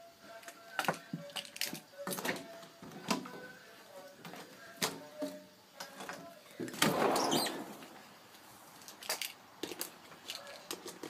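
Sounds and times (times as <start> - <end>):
faint music: 0.0 - 11.0.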